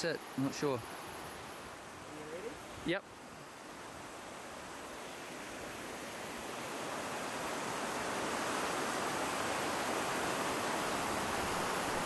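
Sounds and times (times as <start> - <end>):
river water rushing over rocks: 0.9 - 12.0.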